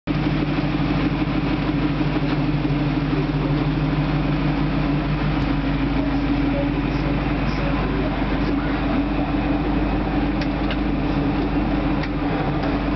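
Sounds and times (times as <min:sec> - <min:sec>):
engine idling with low rumble: 0:00.1 - 0:12.9.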